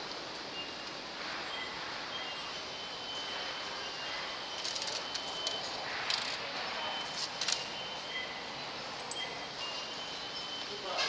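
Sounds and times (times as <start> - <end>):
traffic: 0.0 - 11.0.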